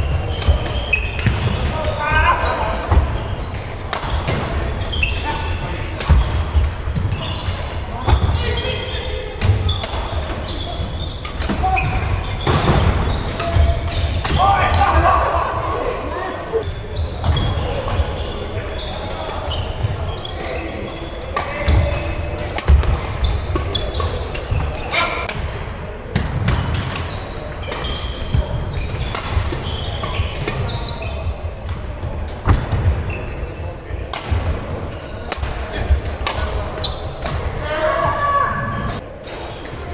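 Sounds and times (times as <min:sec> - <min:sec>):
shoes squeaking on court: 0:00.0 - 0:14.4, 0:16.3 - 0:25.3, 0:26.2 - 0:33.8, 0:34.9 - 0:37.4, 0:38.1 - 0:39.9.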